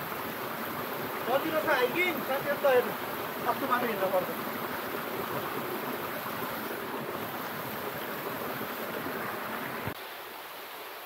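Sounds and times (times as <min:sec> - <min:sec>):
water rushing in a rocky stream: 0:00.0 - 0:11.0.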